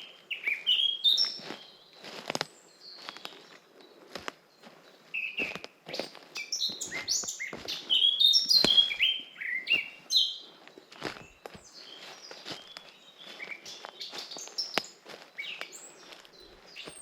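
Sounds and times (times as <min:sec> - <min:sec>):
soft footsteps on forest path: 0:00.0 - 0:17.0
songbirds singing: 0:00.0 - 0:17.0.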